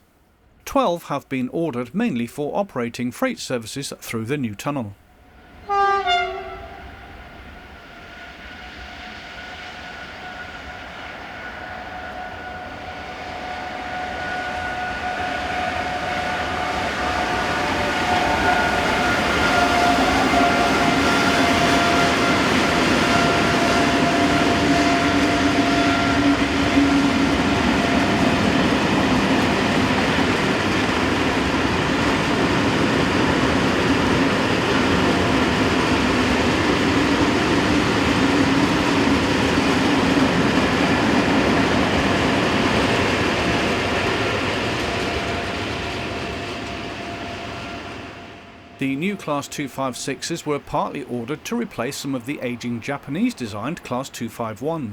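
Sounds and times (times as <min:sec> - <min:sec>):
rumble of rolling train: 0:05.1 - 0:52.2
electric locomotive passing: 0:05.1 - 0:54.9.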